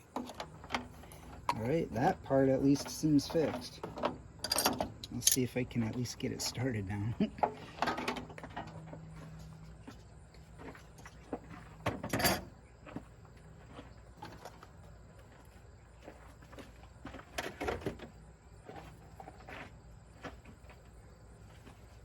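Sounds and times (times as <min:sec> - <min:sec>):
knocks and rustles of handling: 0:00.0 - 0:22.0.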